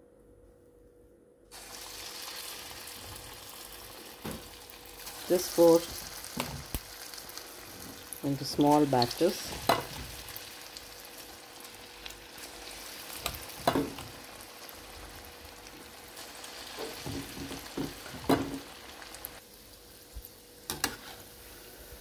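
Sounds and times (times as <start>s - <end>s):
batter deep-frying in oil: 1.5s - 22.0s.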